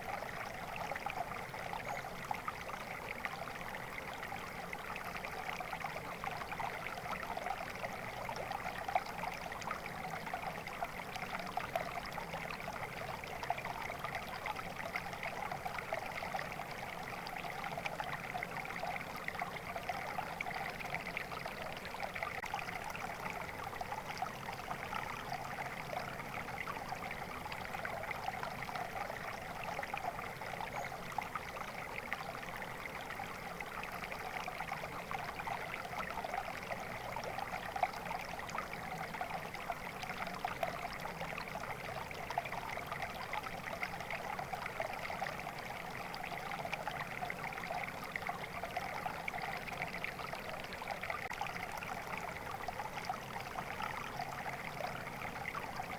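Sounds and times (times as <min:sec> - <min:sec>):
stream babbling: 0:00.0 - 0:55.9.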